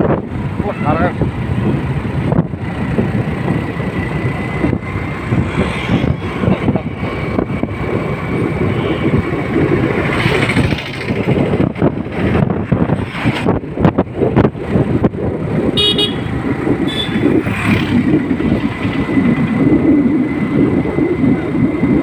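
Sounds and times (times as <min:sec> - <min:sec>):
motorcycle engine and road noise: 0:00.0 - 0:22.0
traffic passing: 0:00.0 - 0:22.0
wind buffeting microphone: 0:00.0 - 0:22.0.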